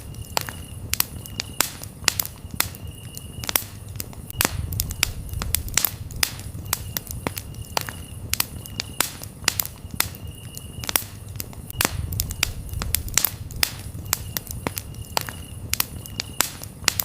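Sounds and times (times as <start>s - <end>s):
campfire crackling and popping: 0.0s - 17.0s
low rumble of flames: 0.0s - 17.0s
soft cricket chirps: 0.0s - 17.0s.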